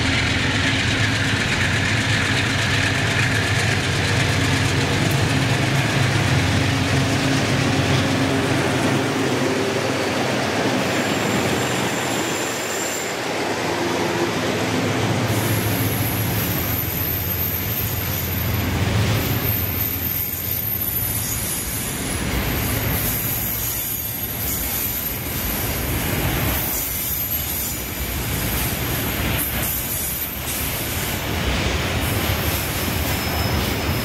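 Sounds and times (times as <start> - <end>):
diesel locomotive engines humming: 0.0 - 34.0
high wheel squeal: 0.0 - 34.0
train wheels on rails: 0.0 - 34.0.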